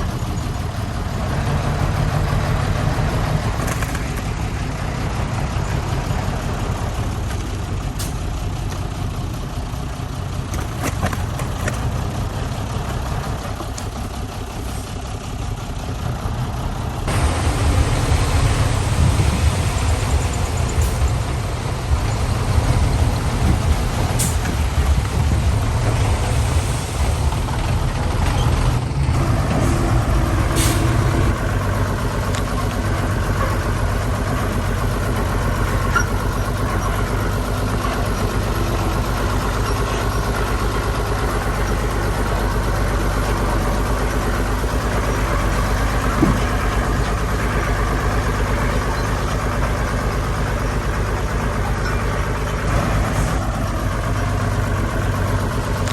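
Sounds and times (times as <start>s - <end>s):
heavy diesel engines under load: 0.0s - 55.9s.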